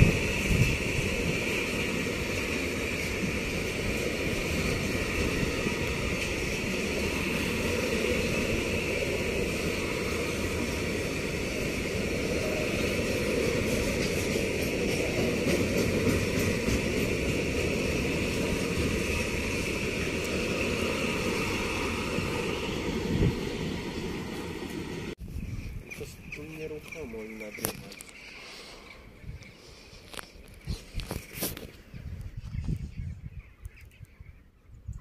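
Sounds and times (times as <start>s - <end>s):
train wheels rumbling on rails: 0.0s - 32.7s.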